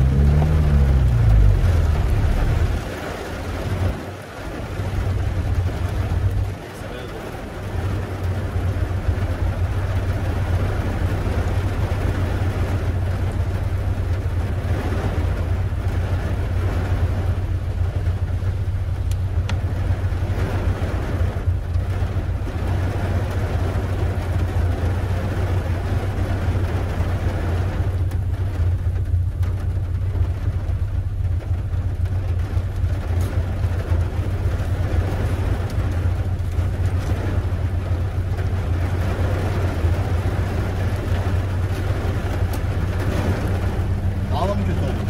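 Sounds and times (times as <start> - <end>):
car engine idling: 0.0 - 45.0
rain pattering on a car: 0.0 - 45.0.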